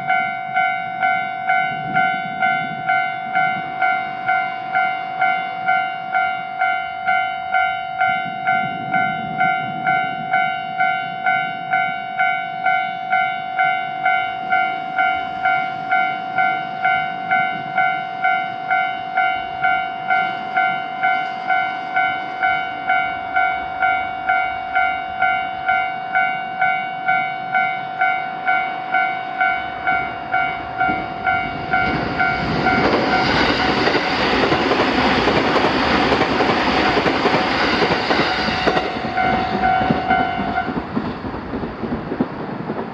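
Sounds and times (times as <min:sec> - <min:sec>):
railroad crossing warning bell: 0:00.0 - 0:41.0
passing train running noise: 0:00.0 - 0:42.9.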